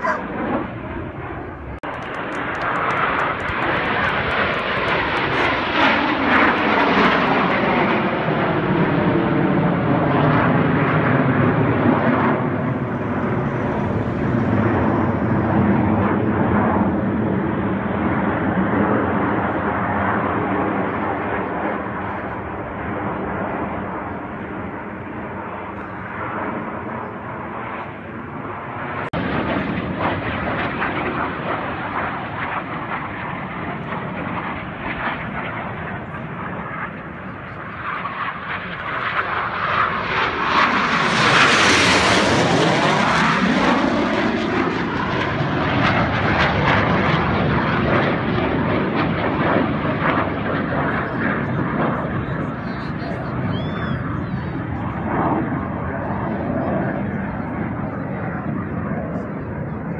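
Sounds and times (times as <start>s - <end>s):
jets passing overhead: 0.0s - 59.9s.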